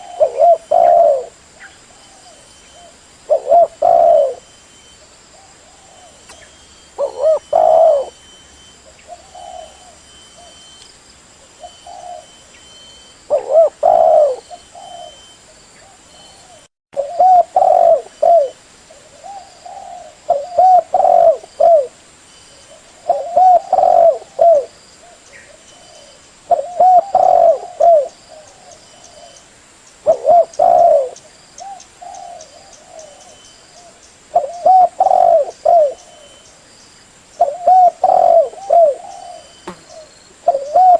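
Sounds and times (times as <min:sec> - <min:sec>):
dove cooing: 0:00.0 - 0:04.6, 0:05.4 - 0:10.7, 0:11.4 - 0:12.4, 0:13.3 - 0:22.0, 0:22.6 - 0:29.4, 0:30.0 - 0:36.4, 0:37.4 - 0:40.9.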